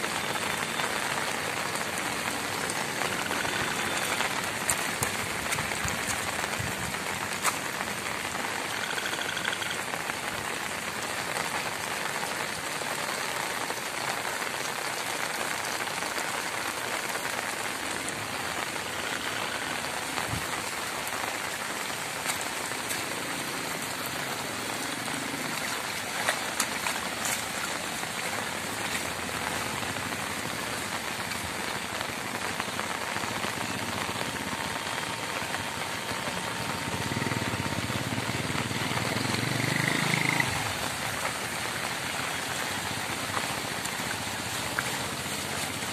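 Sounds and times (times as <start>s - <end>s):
heavy rain on wet ground: 0.0s - 45.9s.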